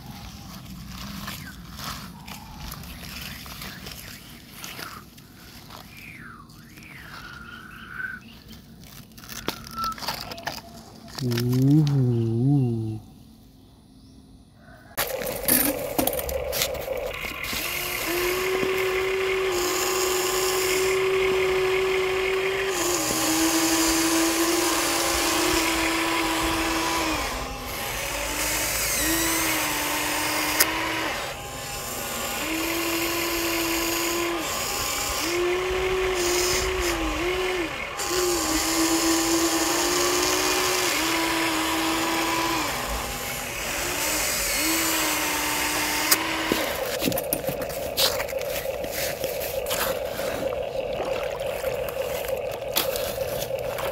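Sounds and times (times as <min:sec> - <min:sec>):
toy electric motors whirring: 0:07.9 - 0:12.9, 0:15.0 - 0:53.9.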